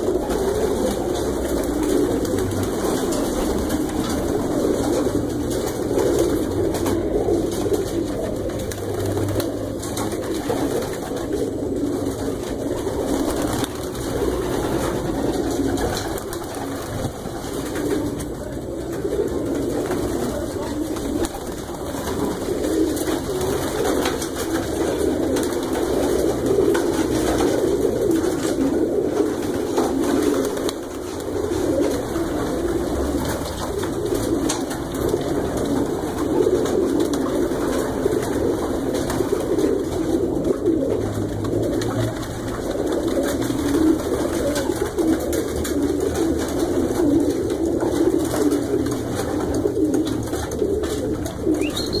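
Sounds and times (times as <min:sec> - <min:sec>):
pigeons cooing: 0:00.0 - 0:52.0.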